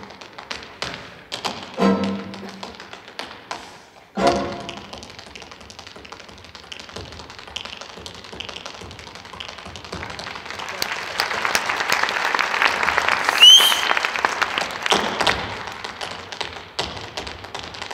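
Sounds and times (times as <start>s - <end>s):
tap shoes clicking on stage: 0.0s - 17.9s.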